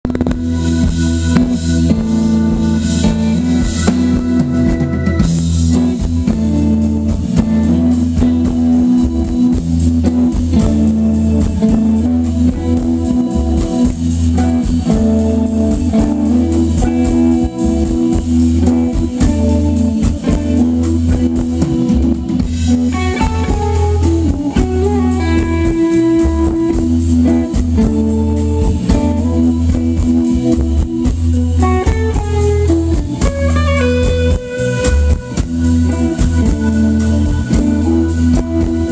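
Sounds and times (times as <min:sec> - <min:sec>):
electric guitar lead line: 0:00.0 - 0:38.9
live blues band: 0:00.0 - 0:38.9.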